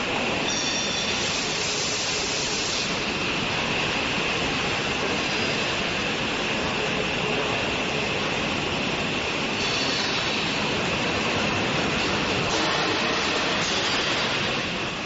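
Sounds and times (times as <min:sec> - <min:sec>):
high whine: 0:00.0 - 0:15.0
industrial furnace noise: 0:00.0 - 0:15.0
bright hiss: 0:00.4 - 0:07.4, 0:09.4 - 0:14.8.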